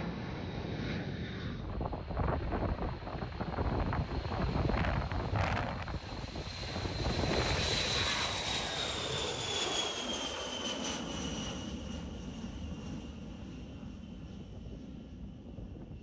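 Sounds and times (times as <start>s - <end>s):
jet engines roaring with high whine: 0.0s - 16.0s.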